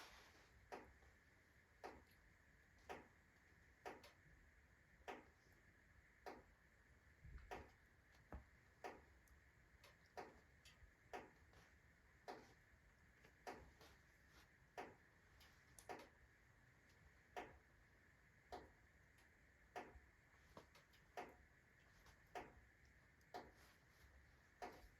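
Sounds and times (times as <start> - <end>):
low steady hiss: 0.0 - 24.9.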